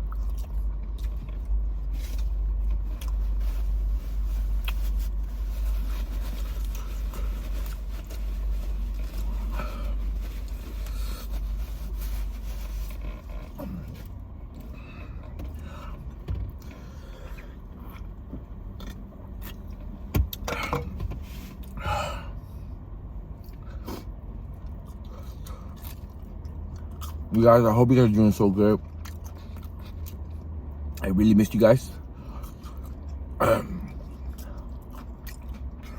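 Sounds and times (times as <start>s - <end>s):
car cabin rumble: 0.0s - 30.4s.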